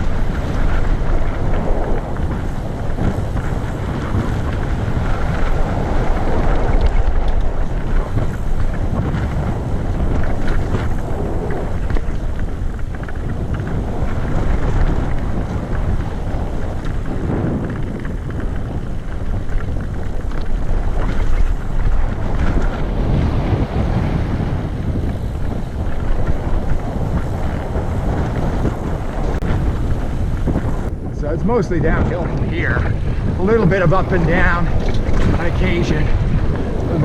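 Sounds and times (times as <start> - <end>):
bike knocking and rattling: 0.0 - 37.0
wind rumbling on microphone: 0.0 - 37.0.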